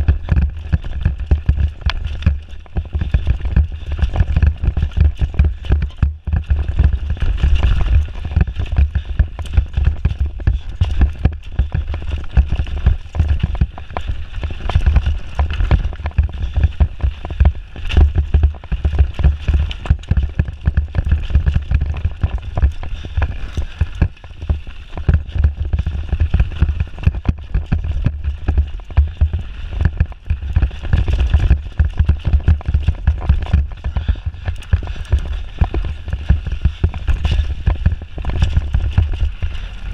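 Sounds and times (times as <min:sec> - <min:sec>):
bike clattering over dirt trail: 0:00.0 - 0:39.9
wind buffeting microphone: 0:00.0 - 0:39.9.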